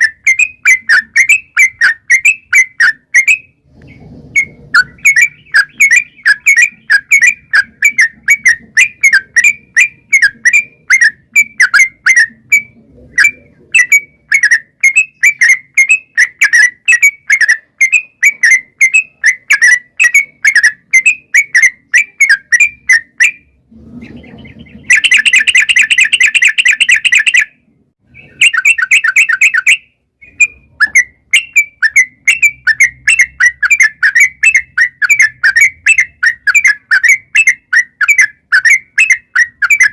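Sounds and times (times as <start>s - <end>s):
bird chattering rattle: 0.0s - 27.5s, 28.1s - 39.9s
bird calling repeated notes: 0.0s - 39.9s.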